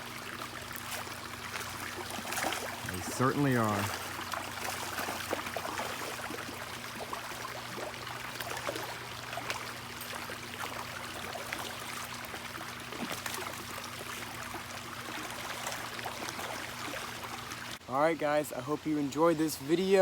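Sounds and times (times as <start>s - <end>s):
water trickling over waterfalls: 0.0s - 20.0s.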